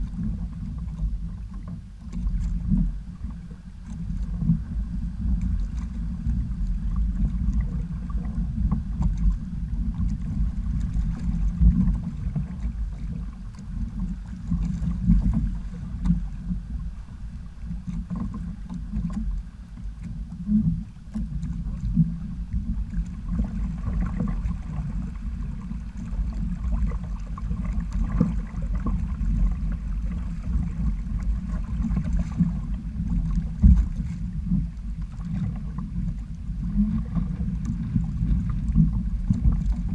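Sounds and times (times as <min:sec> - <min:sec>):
water sloshing against hull: 0:00.0 - 0:39.9
wind buffeting microphone: 0:00.0 - 0:39.9.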